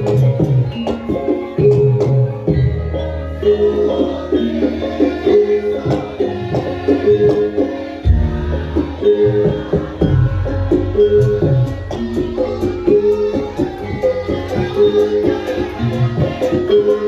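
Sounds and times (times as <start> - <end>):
struck metallophone notes: 0.0 - 17.0.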